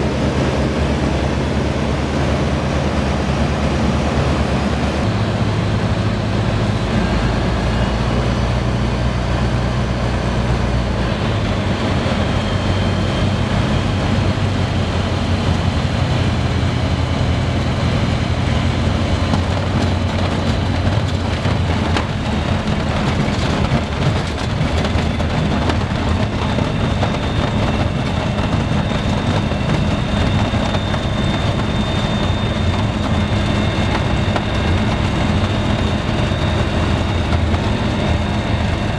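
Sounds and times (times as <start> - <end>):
light aircraft engine: 0.0 - 38.9
wind noise: 0.0 - 38.9.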